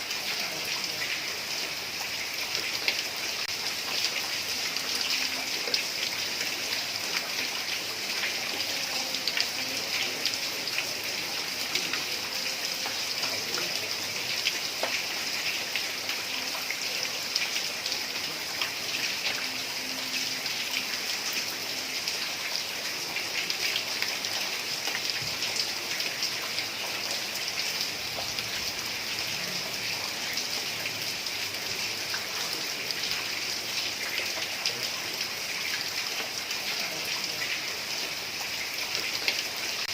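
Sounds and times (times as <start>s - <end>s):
heavy rain on tiled roof: 0.0s - 39.9s.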